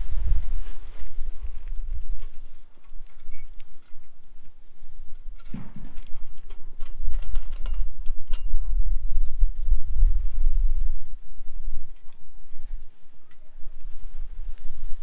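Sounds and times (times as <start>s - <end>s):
low rumble: 0.0s - 15.0s
wood fire crackling: 0.0s - 15.0s.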